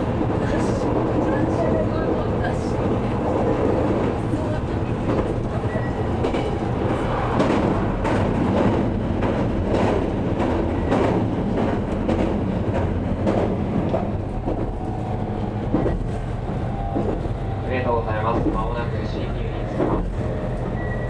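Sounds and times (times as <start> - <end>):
train clacking over bridge: 0.0 - 21.0
train wheels rumbling on rail: 0.0 - 21.0.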